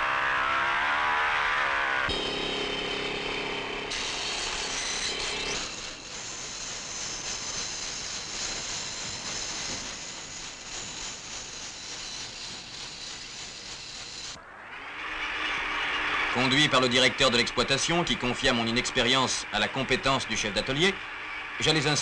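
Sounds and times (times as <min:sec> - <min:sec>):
electric chainsaw cutting log: 0:00.0 - 0:22.0.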